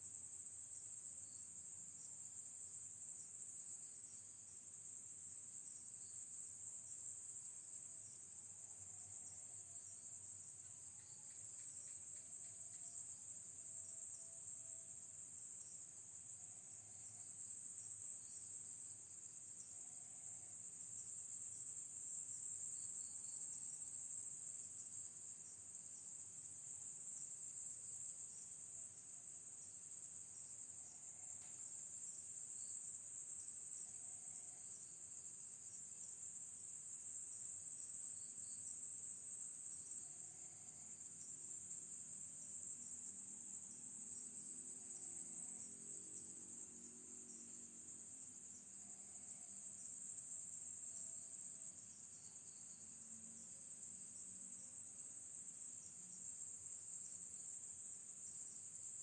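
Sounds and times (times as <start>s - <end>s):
crickets chirring: 0.0s - 59.0s.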